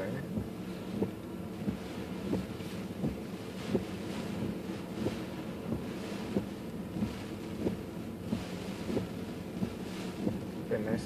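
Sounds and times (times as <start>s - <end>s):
car cabin hum and hiss: 0.0s - 11.0s
windshield wipers knocking: 0.2s - 11.0s.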